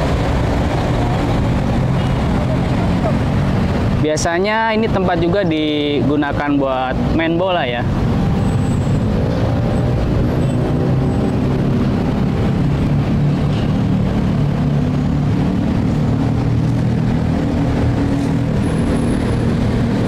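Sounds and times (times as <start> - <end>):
traffic drone: 0.0 - 20.0.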